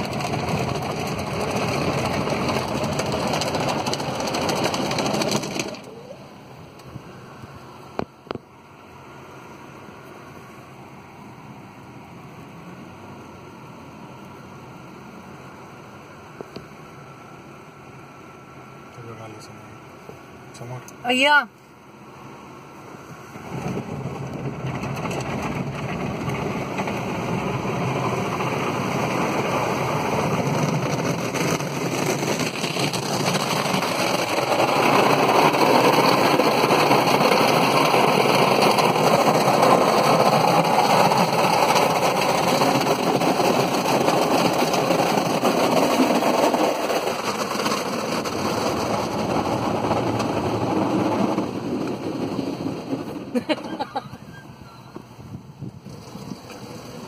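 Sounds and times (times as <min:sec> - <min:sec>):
car wash water spraying: 0:00.0 - 0:18.4, 0:21.1 - 0:54.2, 0:55.0 - 0:57.0.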